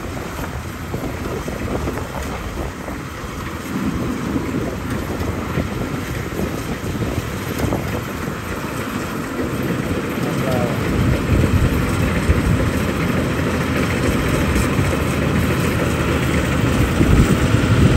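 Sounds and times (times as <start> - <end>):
combine harvester running: 0.0 - 17.9.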